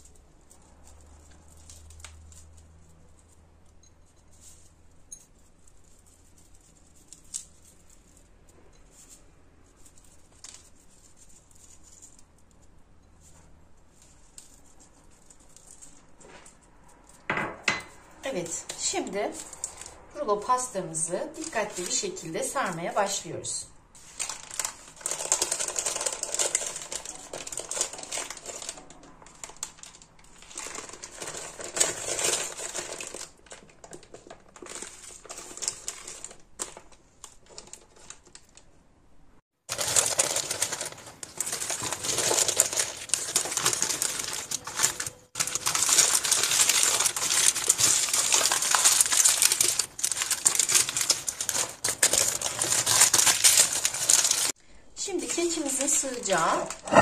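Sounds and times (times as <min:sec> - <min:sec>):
parchment paper crinkling: 0:00.0 - 0:38.8, 0:39.6 - 0:54.6.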